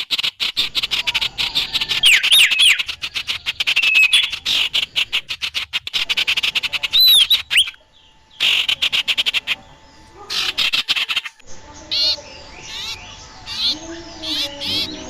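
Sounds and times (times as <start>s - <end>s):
bird chattering: 0.0s - 15.0s.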